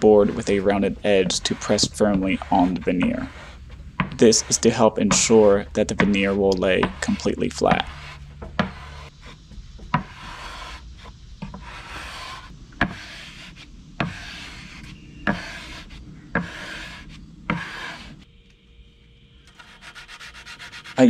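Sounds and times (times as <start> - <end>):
board rubbing across veneer: 0.0 - 18.2, 19.6 - 21.0.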